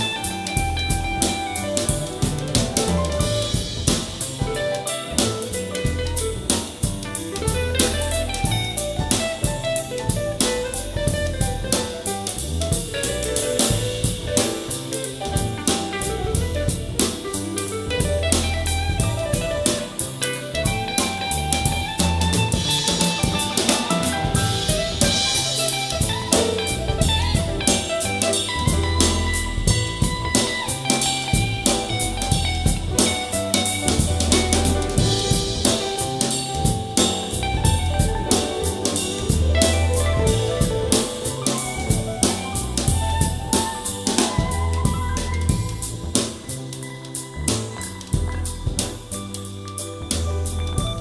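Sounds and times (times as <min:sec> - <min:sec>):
bass notes: 0:00.0 - 0:51.0
drum kit steady beat: 0:00.0 - 0:51.0
guitar: 0:00.0 - 0:51.0
instrumental band music: 0:00.0 - 0:51.0.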